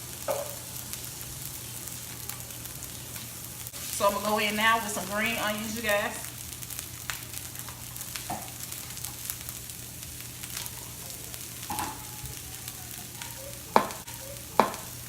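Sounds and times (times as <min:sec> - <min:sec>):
fried rice sizzling on grill: 0:00.0 - 0:15.0.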